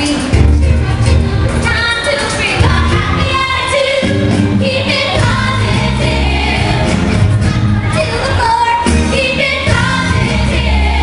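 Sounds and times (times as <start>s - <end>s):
pop song with singing: 0.0s - 11.0s.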